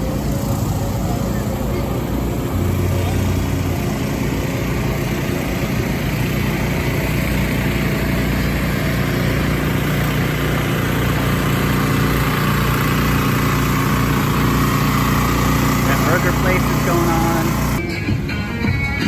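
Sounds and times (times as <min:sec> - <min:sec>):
small engine idling: 0:00.0 - 0:17.8.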